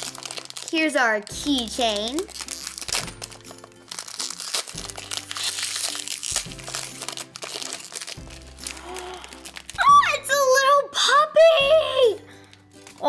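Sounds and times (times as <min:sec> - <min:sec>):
foil packet crinkling: 0:00.0 - 0:10.2, 0:12.2 - 0:13.0
background music: 0:00.0 - 0:13.0.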